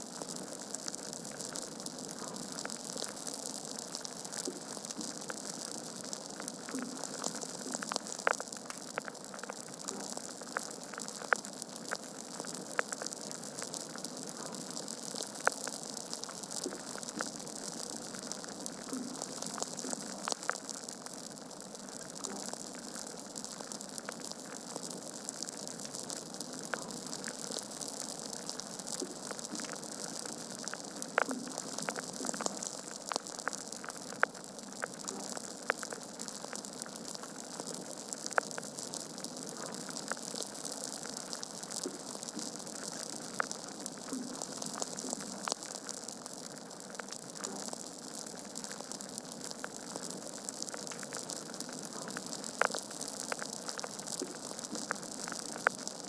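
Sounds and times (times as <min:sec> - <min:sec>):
logs crackling in a fireplace: 0:00.2 - 0:56.0.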